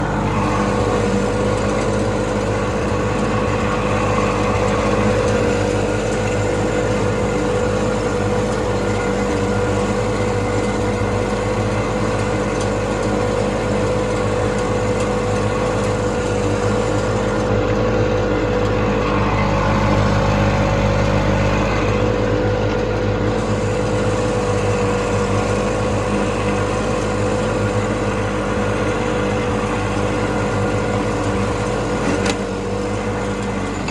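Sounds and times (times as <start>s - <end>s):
garden tractor engine running: 0.0s - 33.9s
mower deck cutting grass: 0.0s - 33.9s.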